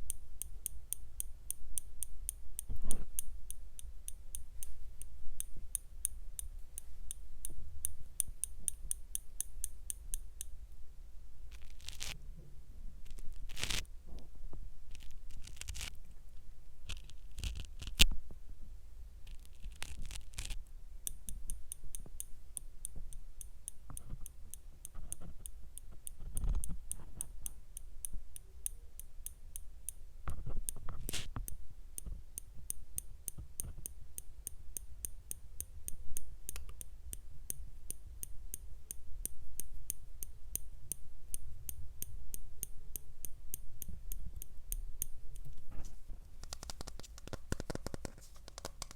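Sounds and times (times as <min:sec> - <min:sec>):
light ticks: 0:00.0 - 0:10.6, 0:19.3 - 0:48.9.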